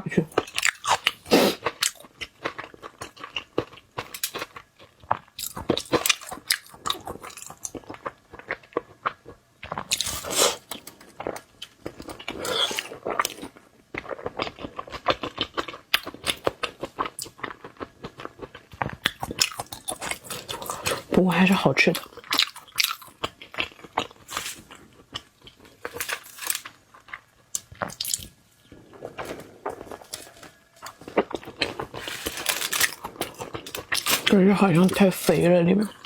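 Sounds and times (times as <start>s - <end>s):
crunchy chewing of food: 0.3s - 36.0s.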